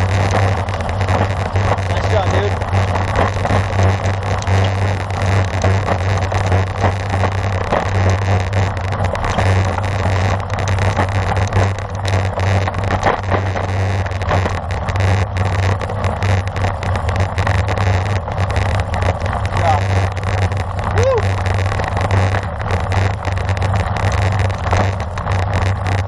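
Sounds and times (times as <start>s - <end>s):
small crackles: 0.0s - 26.0s
tyre road noise: 0.0s - 26.0s.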